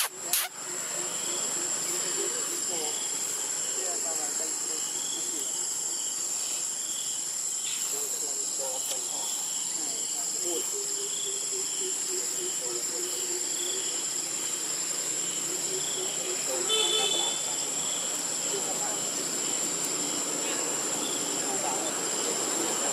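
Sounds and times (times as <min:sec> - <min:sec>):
high-pitched insect whine: 0:00.0 - 0:22.9
soft insect chirp: 0:00.0 - 0:22.9.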